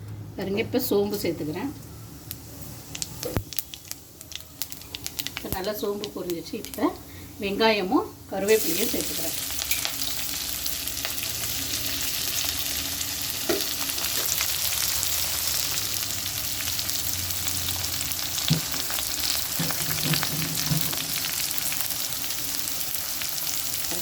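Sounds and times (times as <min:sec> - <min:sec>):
onions sizzling in hot oil: 0:02.2 - 0:24.0.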